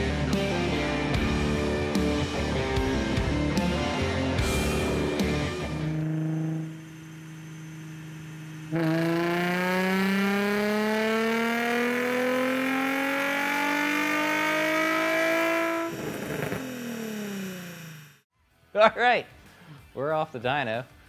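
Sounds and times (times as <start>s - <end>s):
car engine revving at full throttle: 0.0s - 18.2s.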